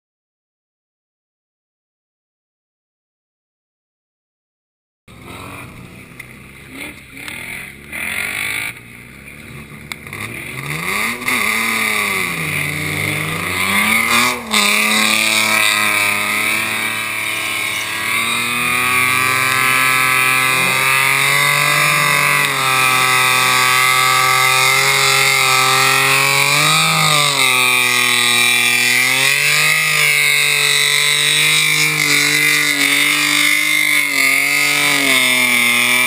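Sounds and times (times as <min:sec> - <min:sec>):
car engine revving: 0:05.1 - 0:36.0
tyres spinning in burnout: 0:06.6 - 0:36.0.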